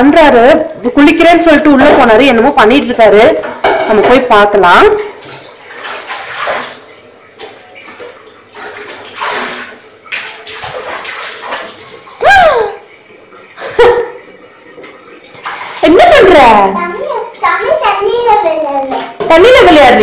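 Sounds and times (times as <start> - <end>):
water sloshing in plastic tub: 1.7 - 20.0.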